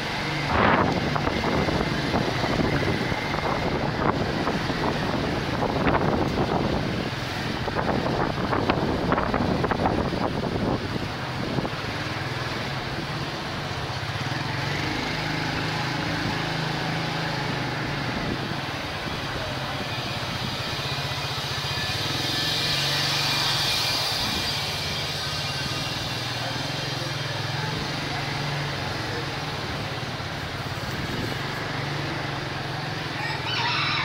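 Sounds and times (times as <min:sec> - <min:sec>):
motorbike engine running: 0:00.0 - 0:33.2
motorcycle traffic din: 0:00.0 - 0:34.0.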